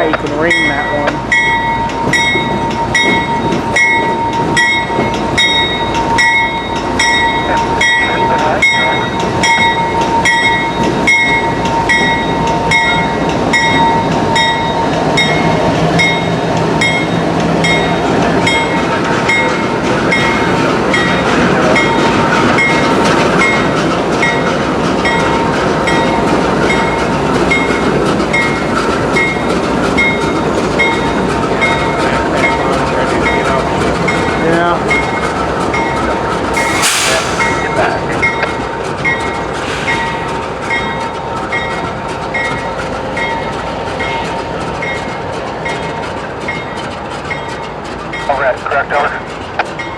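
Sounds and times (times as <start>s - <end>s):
locomotive bell ringing: 0.0s - 49.9s
train rumble: 0.0s - 49.9s.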